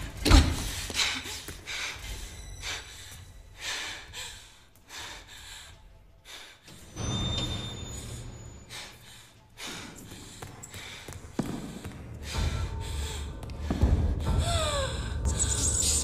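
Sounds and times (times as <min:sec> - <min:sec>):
woman breathing heavily and gasping: 0:00.0 - 0:07.0, 0:08.0 - 0:15.7
tense film score music: 0:00.0 - 0:16.0.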